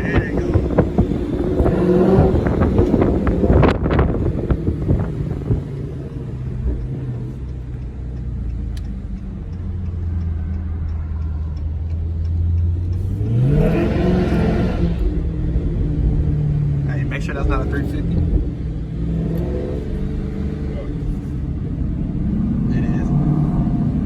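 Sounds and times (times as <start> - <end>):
exhaust pops: 0.0 - 21.6
car exhaust drone: 0.0 - 24.0.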